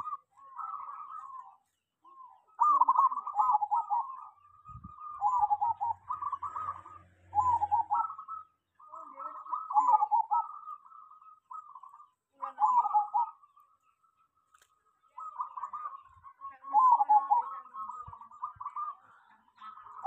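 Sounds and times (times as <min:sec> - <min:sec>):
dove cooing: 0:00.0 - 0:13.7, 0:15.0 - 0:20.0.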